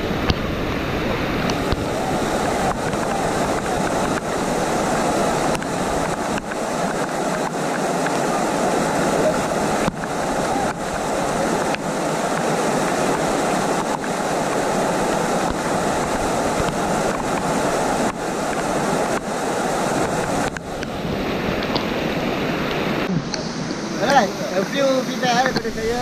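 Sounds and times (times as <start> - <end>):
river rapids rushing: 0.0 - 26.0.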